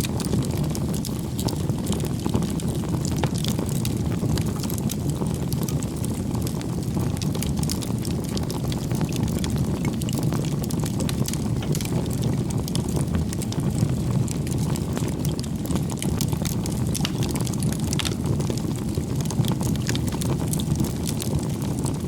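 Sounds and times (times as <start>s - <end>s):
firewood crackling and popping: 0.0s - 22.0s
wood fire burning: 0.0s - 22.0s.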